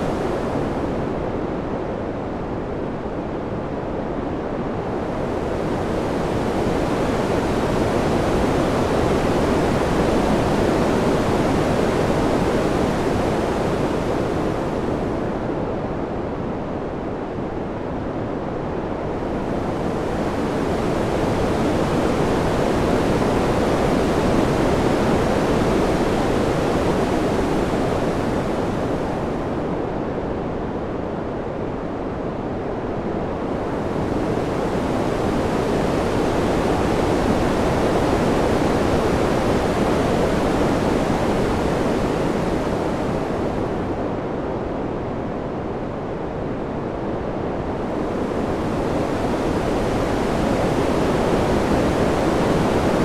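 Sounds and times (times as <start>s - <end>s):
rushing wind: 0.0s - 53.0s.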